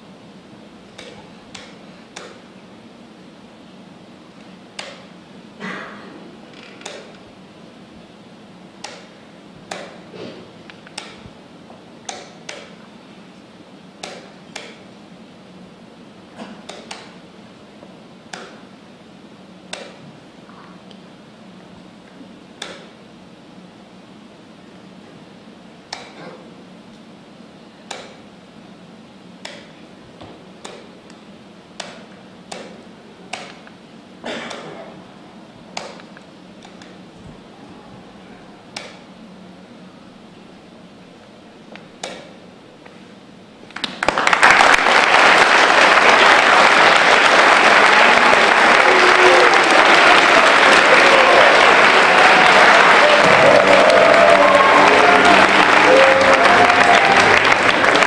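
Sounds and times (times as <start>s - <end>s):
steady low hum: 0.0s - 48.7s.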